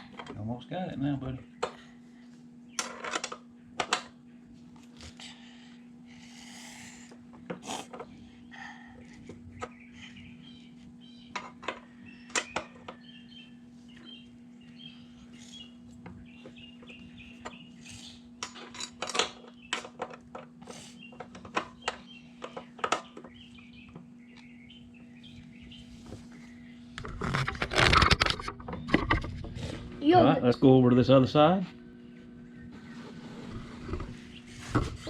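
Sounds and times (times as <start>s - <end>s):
steady low hum: 0.0s - 35.0s
small birds chirping: 0.4s - 18.6s, 19.2s - 27.6s, 28.6s - 35.0s.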